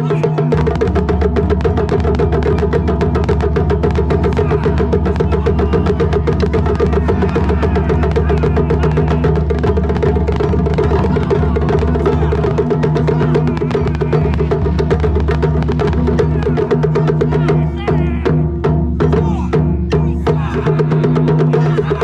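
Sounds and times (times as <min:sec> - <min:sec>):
taiko drums in rapid rhythm: 0:00.0 - 0:22.0.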